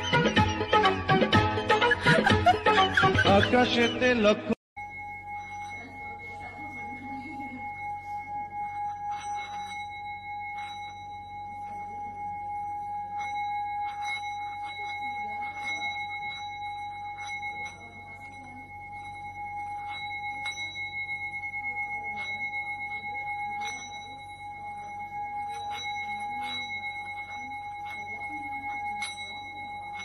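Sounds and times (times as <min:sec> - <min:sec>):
singing bowl ringing: 0:04.8 - 0:30.0.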